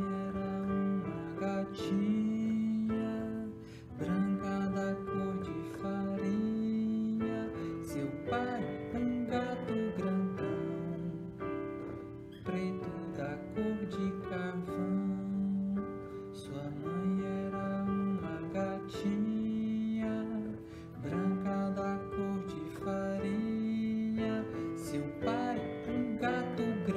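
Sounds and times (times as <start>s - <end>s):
man singing: 0.0s - 26.9s.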